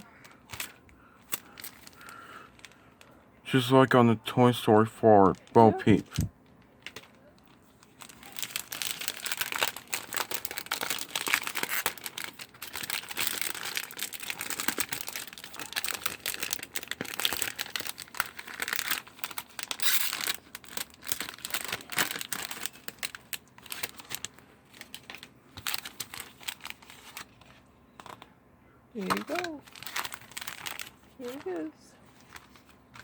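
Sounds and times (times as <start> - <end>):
packaging crinkling and tearing: 0.0 - 3.2, 5.2 - 28.3, 29.0 - 33.0.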